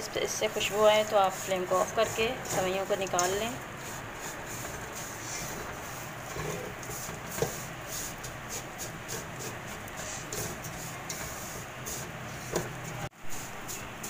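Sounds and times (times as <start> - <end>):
frying hiss: 0.0 - 14.0
spatula stirring frying noodles: 0.0 - 14.0.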